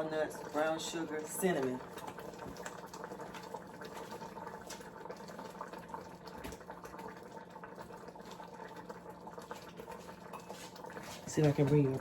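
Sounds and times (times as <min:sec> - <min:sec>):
oatmeal bubbling in a pot: 0:00.0 - 0:12.0.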